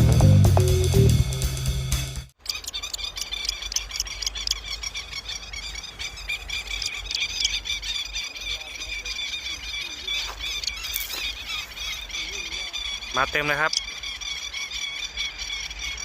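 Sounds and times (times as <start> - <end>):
lapwings calling shrilly: 2.4 - 16.0.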